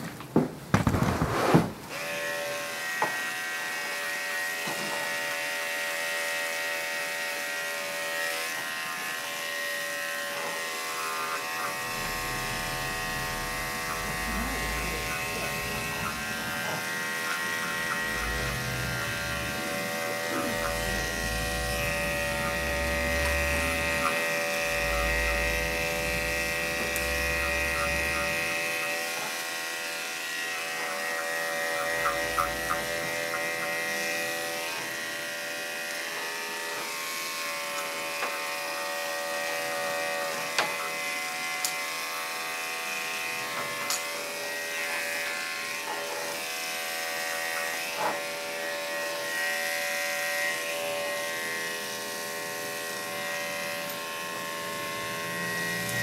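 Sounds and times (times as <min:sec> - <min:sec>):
electric clipper motor hum: 0:01.9 - 0:56.0.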